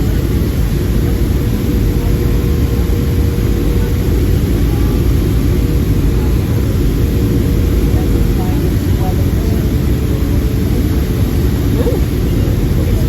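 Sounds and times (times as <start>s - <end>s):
faint constant whine: 0.0s - 13.0s
jet airliner engines rumbling: 0.0s - 13.0s.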